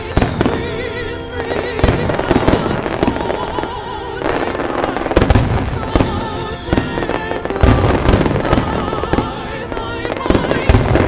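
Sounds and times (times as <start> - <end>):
fireworks bursting with sharp bangs: 0.0 - 11.0
music with singing voice: 0.0 - 11.0.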